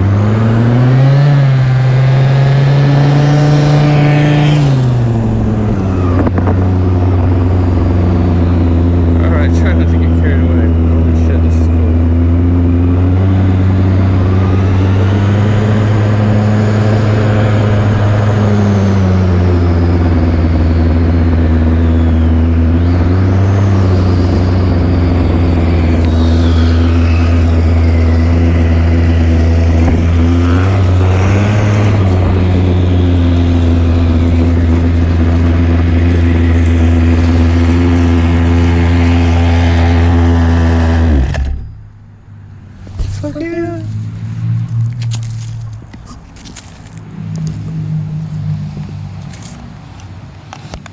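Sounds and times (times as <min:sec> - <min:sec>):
small two-stroke engine revving: 0:00.0 - 0:50.9.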